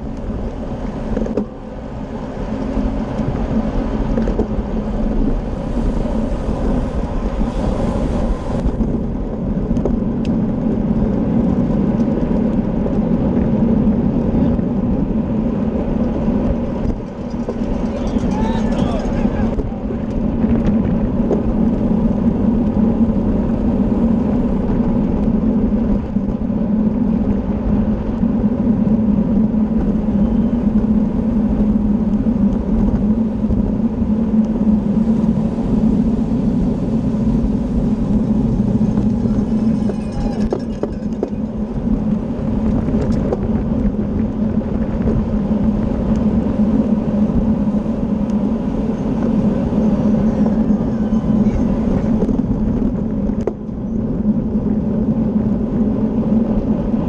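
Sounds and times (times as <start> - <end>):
bicycle road noise: 0.0 - 57.0
constant low hum: 0.0 - 57.0
wind buffeting microphone: 0.0 - 57.0.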